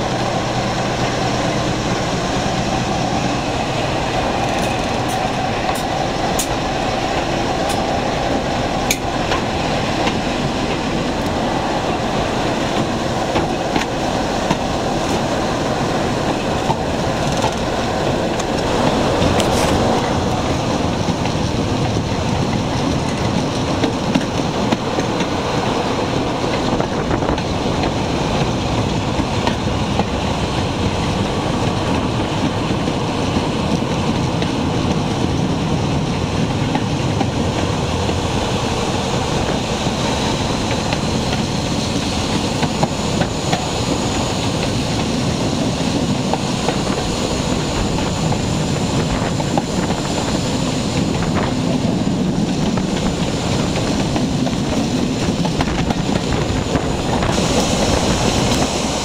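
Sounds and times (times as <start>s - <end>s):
clickety-clack of rail joints: 0.0s - 59.0s
diesel train engine drone: 0.0s - 59.0s
wheel and rail noise: 0.0s - 59.0s.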